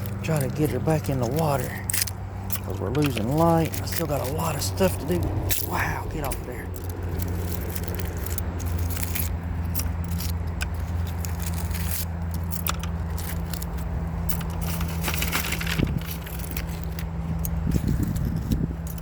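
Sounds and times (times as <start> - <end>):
metal scraps clicking and scraping: 0.0 - 19.0
steady low hum: 0.0 - 19.0.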